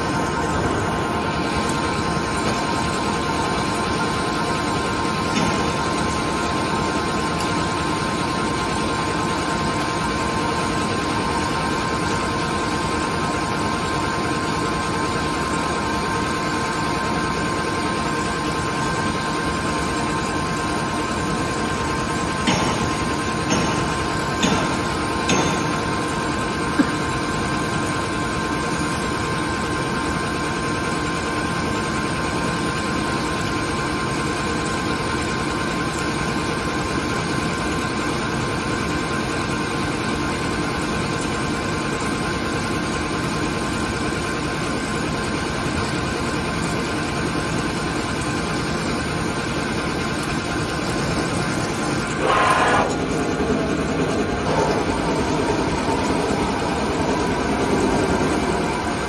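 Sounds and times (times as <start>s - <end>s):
lathe machine running: 0.0s - 59.0s.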